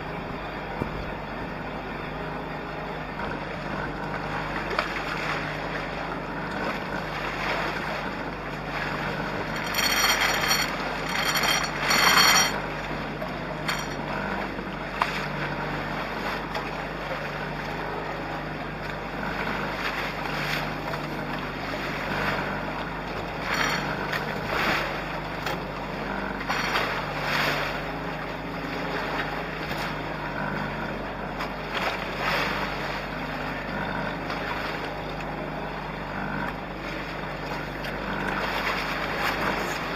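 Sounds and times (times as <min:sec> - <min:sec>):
water splashing along boat hulls: 0:00.0 - 0:39.9.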